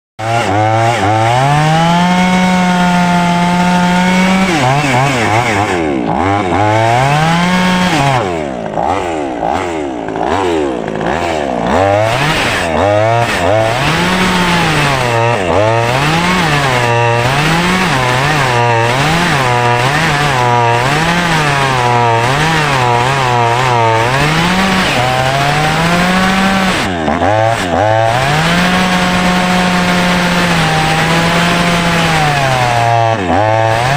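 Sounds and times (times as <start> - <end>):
chainsaw cutting tree trunk: 0.2 - 33.9.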